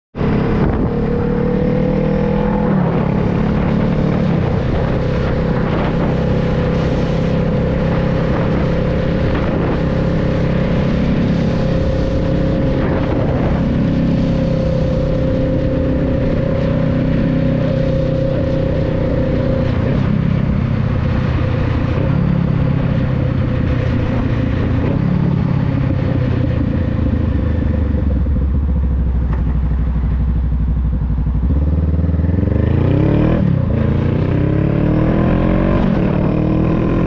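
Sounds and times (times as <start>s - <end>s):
motorcycle engine cruising: 0.2s - 37.0s.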